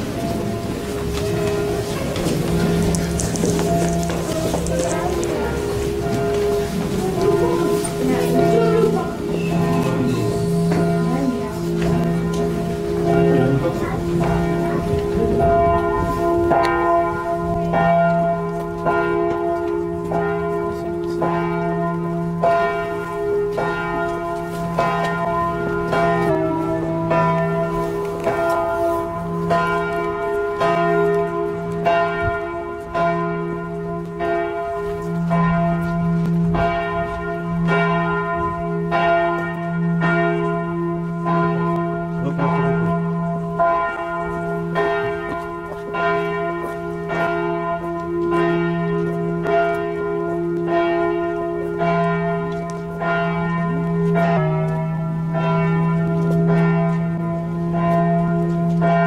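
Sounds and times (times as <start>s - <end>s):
church bell tolling: 0.0s - 59.0s.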